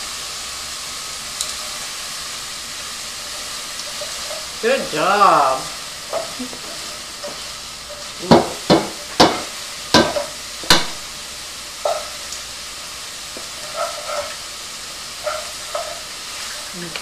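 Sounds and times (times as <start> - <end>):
sausage sizzling in a pan: 0.0 - 17.0.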